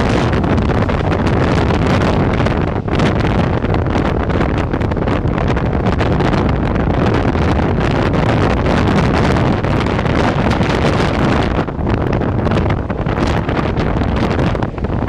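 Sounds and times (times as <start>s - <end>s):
train running noise: 0.0s - 15.0s
wind buffeting microphone: 0.0s - 15.0s.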